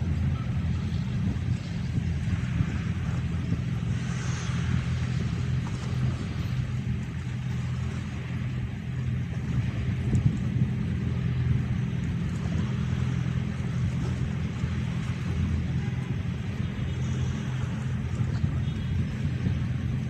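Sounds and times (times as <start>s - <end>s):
ferry engines droning: 0.0s - 20.0s
wind and water hiss: 0.0s - 20.0s.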